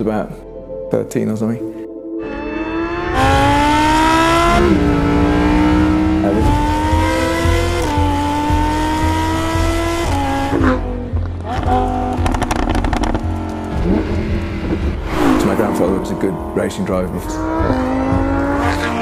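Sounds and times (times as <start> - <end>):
car engine accelerating through gears: 2.2 - 19.0.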